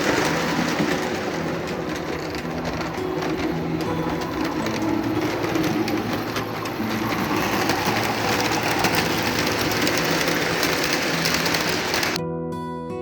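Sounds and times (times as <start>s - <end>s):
model train motor whirring: 0.0s - 12.2s
wheels clicking over track: 0.0s - 12.2s.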